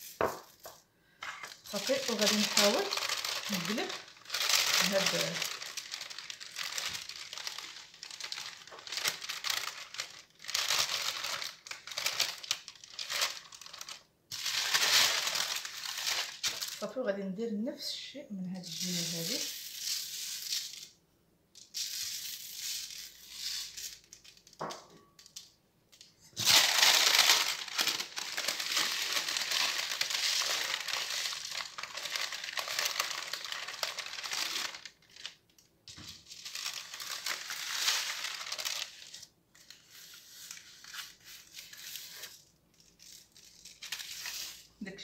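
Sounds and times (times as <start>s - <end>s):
baking paper crinkling: 0.0s - 17.1s, 17.8s - 21.0s, 21.6s - 45.0s.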